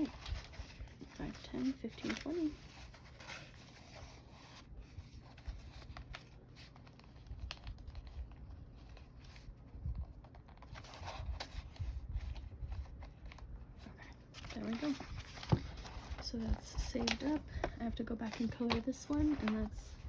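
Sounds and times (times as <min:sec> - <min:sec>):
paper rustling: 0:00.0 - 0:20.0.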